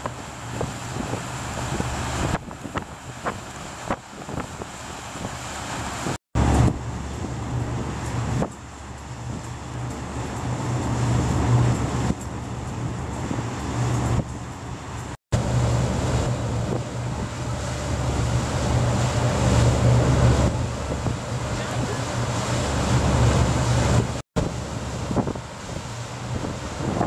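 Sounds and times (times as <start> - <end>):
boat engine drone: 0.0 - 27.0
wind buffeting microphone: 0.0 - 27.0.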